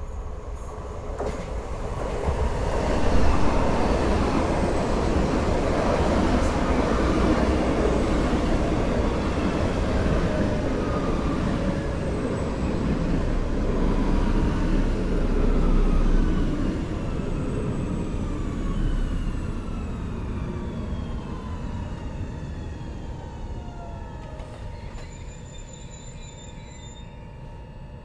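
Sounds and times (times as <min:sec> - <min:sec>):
train wheels rumbling on rail: 0:00.0 - 0:27.1.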